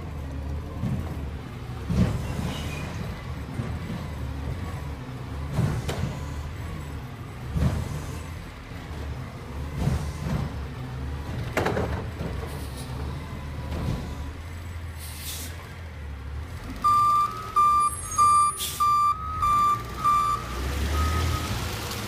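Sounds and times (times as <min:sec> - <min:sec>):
garbage truck diesel engine running: 0:00.0 - 0:22.0.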